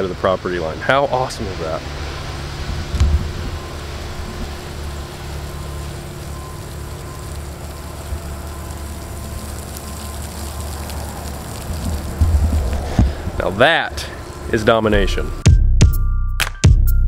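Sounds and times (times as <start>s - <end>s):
sprinkler water jets hissing: 0.0s - 15.4s
steady low rumble: 0.0s - 16.0s.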